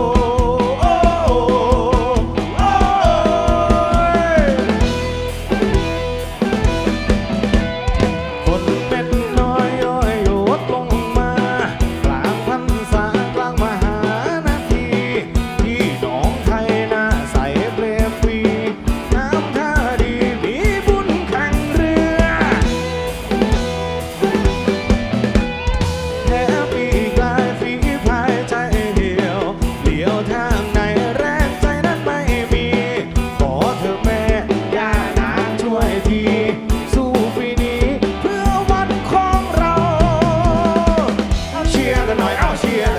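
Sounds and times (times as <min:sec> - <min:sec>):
drum kit beat: 0:00.0 - 0:42.9
live band playing: 0:00.0 - 0:42.9.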